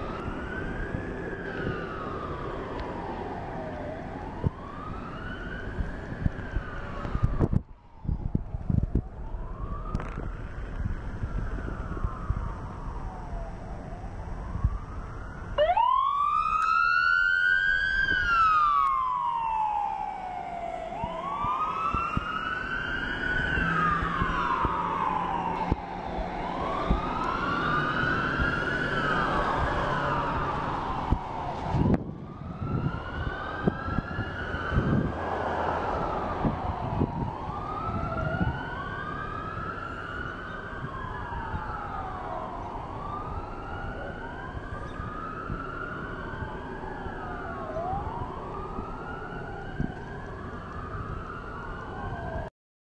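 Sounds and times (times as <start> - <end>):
emergency siren wailing: 0.0 - 52.5.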